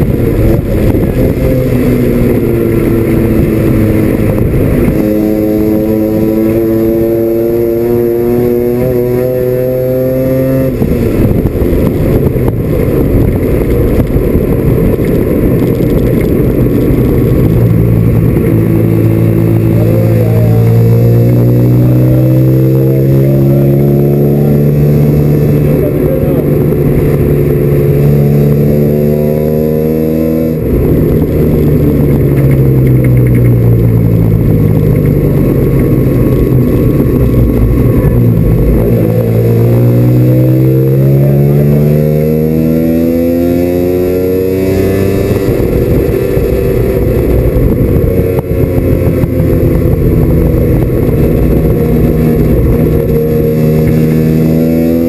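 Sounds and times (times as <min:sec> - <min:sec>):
rotary race car engine: 0:00.0 - 0:55.0.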